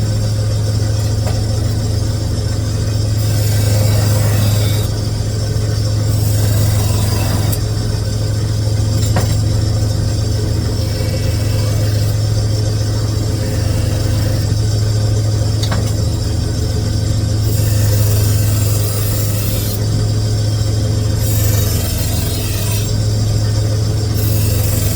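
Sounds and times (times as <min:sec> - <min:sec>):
low machinery motor hum: 0:00.0 - 0:24.9.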